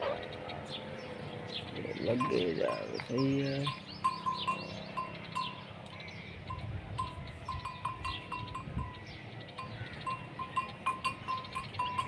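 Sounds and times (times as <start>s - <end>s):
cow bells clanking: 1.8s - 12.0s.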